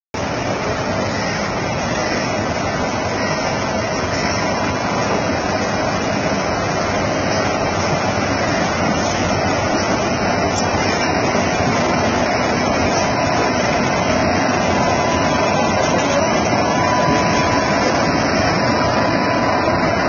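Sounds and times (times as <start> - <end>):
locomotive cooling blowers rushing: 0.2 - 20.0.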